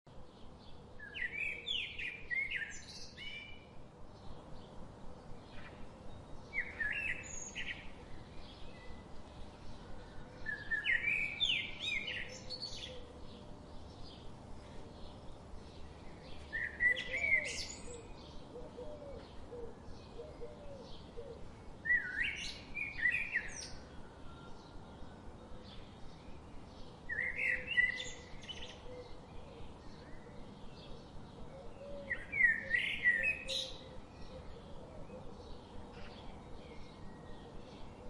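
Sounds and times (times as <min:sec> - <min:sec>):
songbird singing: 0:00.1 - 0:38.0.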